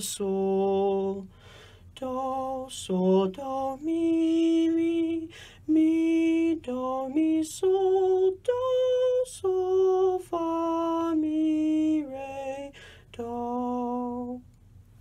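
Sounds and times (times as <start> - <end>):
man singing unaccompanied: 0.0 - 14.5.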